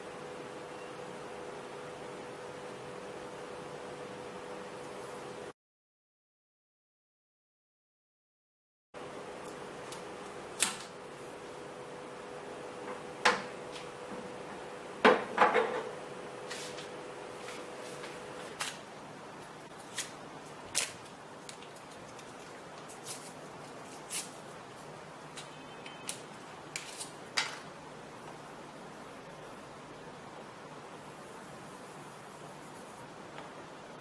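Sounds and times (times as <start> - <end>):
steady hum: 0.0 - 5.5, 9.0 - 34.0.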